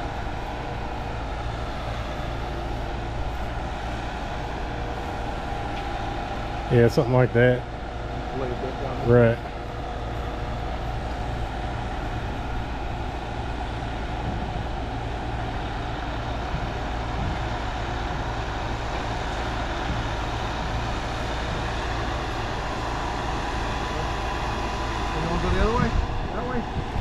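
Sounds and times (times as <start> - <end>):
concrete pump diesel drone: 0.0 - 27.0.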